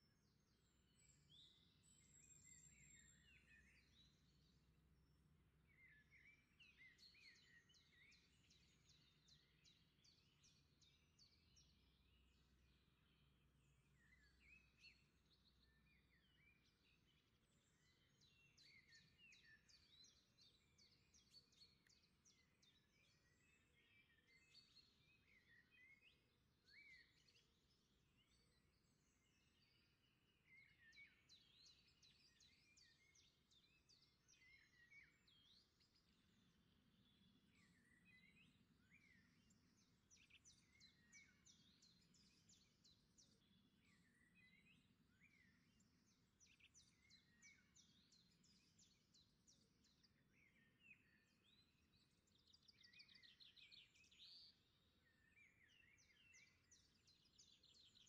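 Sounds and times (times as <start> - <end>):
faint birdsong: 0.0 - 58.0.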